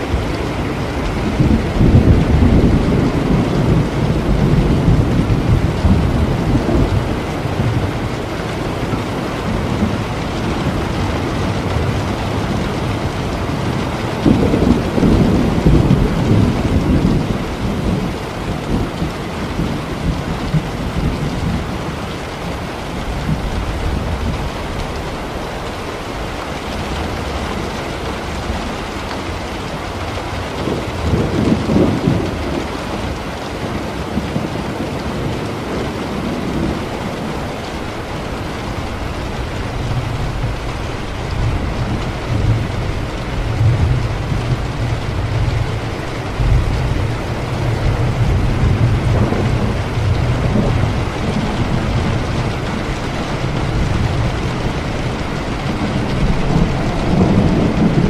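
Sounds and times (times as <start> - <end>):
steady rain falling: 0.0 - 58.0
thunder rolling: 0.0 - 58.0.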